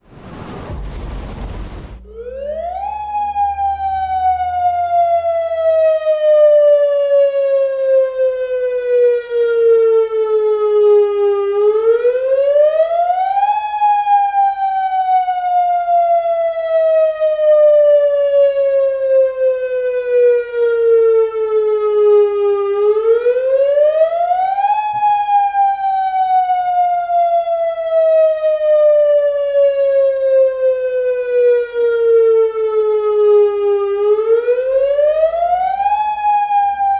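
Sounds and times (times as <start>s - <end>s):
warning siren wailing: 0.7s - 36.9s.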